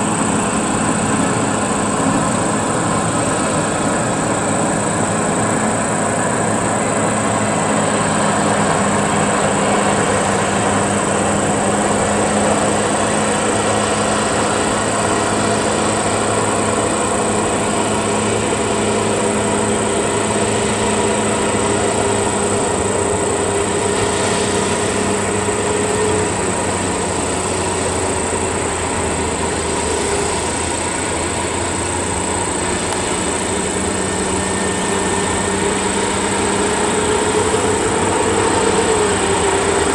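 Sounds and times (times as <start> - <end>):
diesel truck engine: 0.0 - 39.9
steady high-pitched whine: 0.0 - 39.9.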